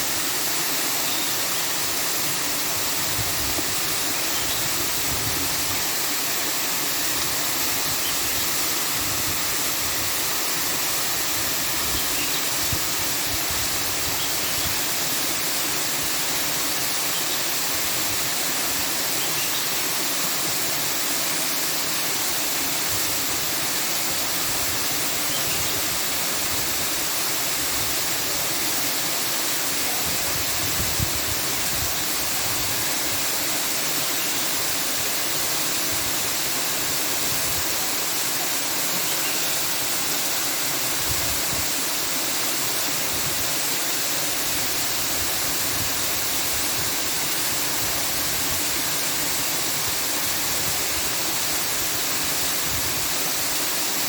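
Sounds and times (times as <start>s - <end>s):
steady hissing rushing noise: 0.0s - 54.0s.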